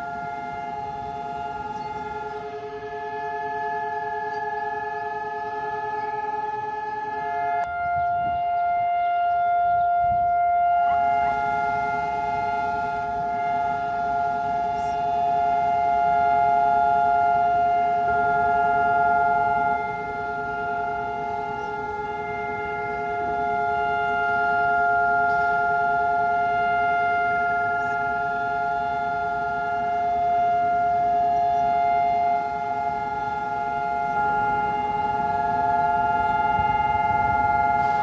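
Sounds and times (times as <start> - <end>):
long steady siren tone: 0.0 - 38.0.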